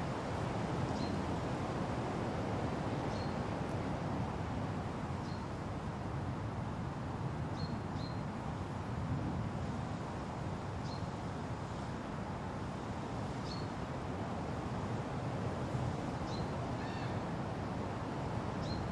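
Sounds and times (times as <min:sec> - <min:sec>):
wind rushing through trees: 0:00.0 - 0:18.9.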